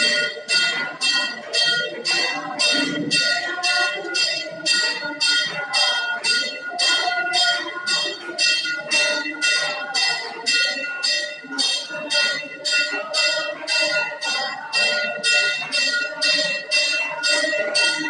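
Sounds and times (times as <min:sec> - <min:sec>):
people singing a hymn: 0:00.0 - 0:18.0
temple bell ringing: 0:00.0 - 0:18.0.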